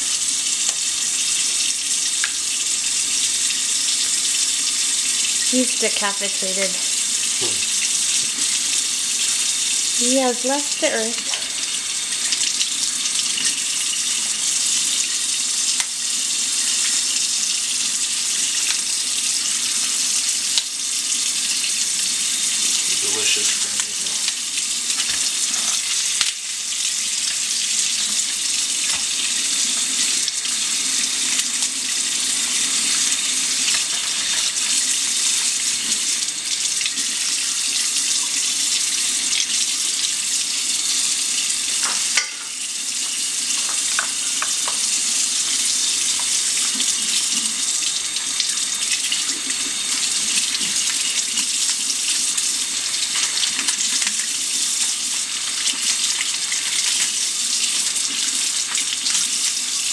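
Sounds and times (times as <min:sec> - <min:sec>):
faucet running into sink: 0:00.0 - 0:59.9.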